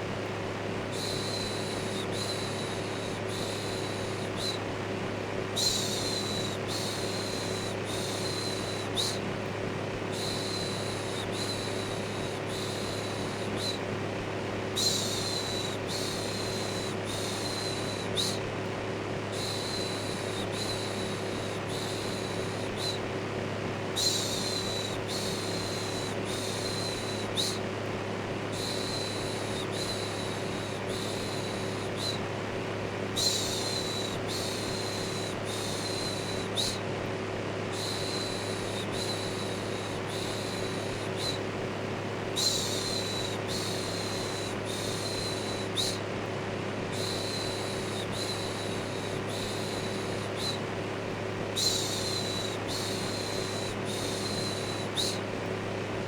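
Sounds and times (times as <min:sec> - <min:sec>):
electric fan humming: 0:00.0 - 0:56.0.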